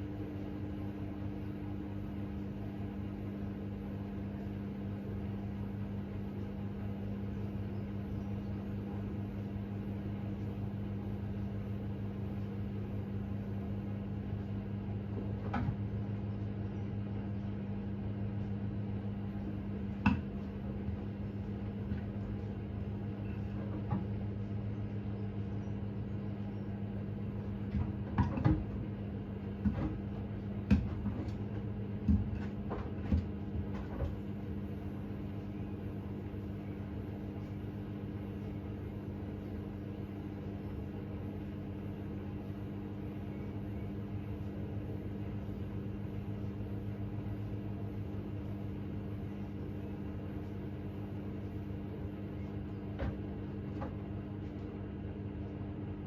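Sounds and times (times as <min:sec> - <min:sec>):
washing machine hum: 0:00.0 - 0:56.0.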